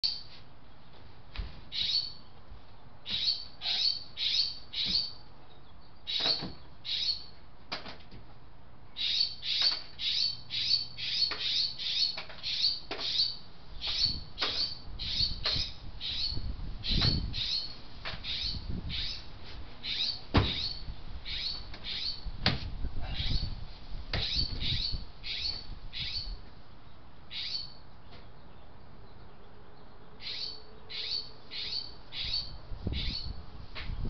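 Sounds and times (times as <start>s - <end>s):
bird chirping: 1.7s - 2.4s, 3.1s - 7.4s, 9.0s - 22.3s, 24.2s - 33.4s.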